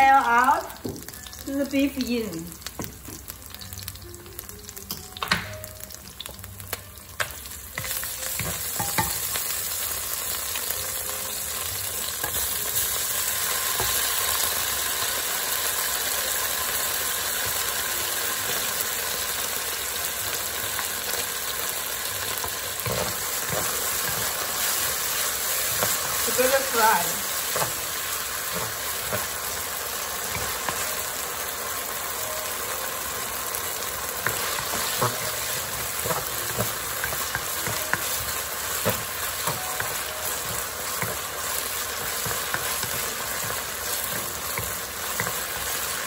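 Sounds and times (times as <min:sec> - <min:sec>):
garlic frying in oil: 0:00.0 - 0:46.0
meat sizzling loudly: 0:00.0 - 0:46.0.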